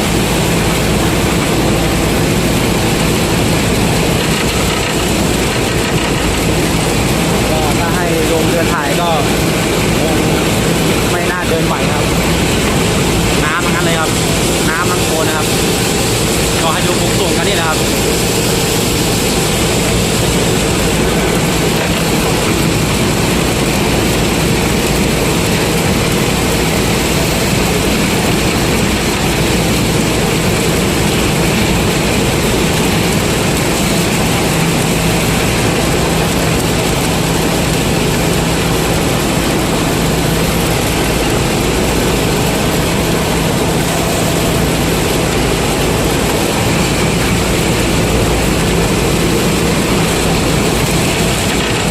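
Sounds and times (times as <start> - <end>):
combine harvesters running: 0.0 - 51.9.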